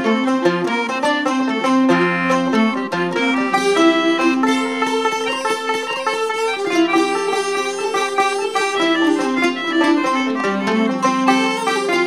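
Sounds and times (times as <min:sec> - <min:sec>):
plucked strings over held tones: 0:00.0 - 0:12.0.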